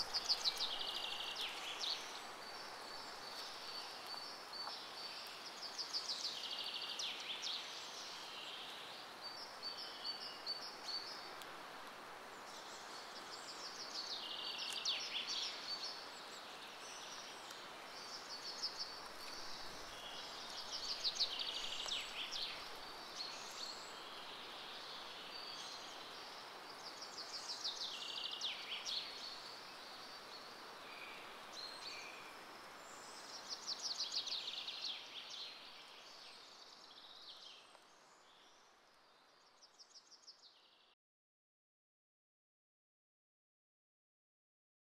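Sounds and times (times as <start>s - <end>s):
songbird singing: 0.0s - 11.6s, 12.2s - 41.0s
outdoor ambience hiss: 0.0s - 40.9s.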